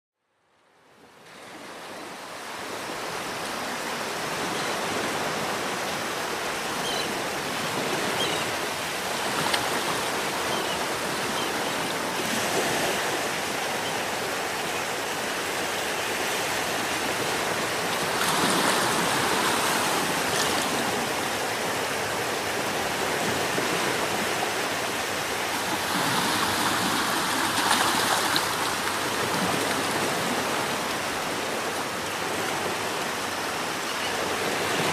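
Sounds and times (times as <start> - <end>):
sea waves washing onto beach: 1.0 - 34.9.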